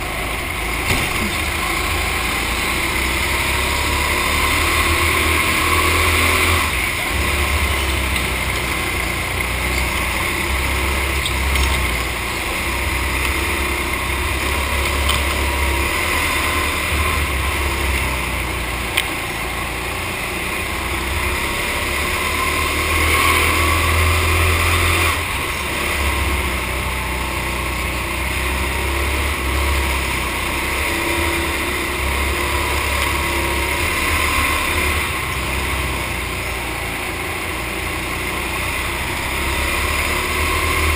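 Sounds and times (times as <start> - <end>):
go-kart engine at speed: 0.0 - 40.9.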